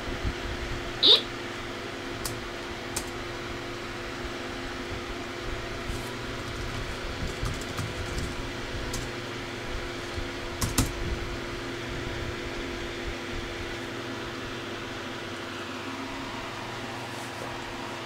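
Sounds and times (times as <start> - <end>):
steady hum: 0.6 - 18.0.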